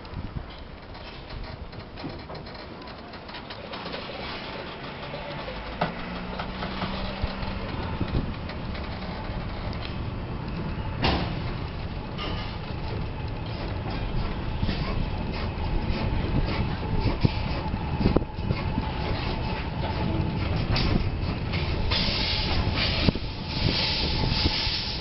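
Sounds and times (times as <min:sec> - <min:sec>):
steam tram running noise: 0:00.0 - 0:25.0.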